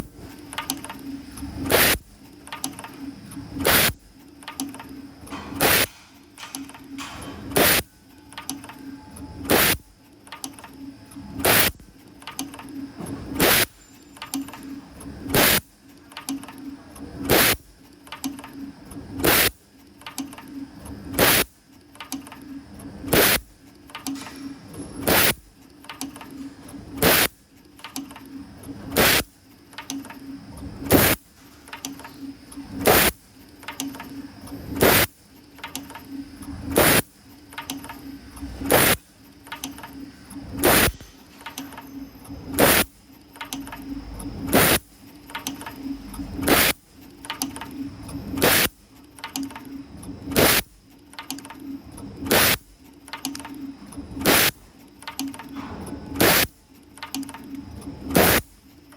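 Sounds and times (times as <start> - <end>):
spring forming machine hum: 0.0 - 58.9
sharp machine clack: 0.5 - 20.5, 21.1 - 22.5, 23.1 - 58.9.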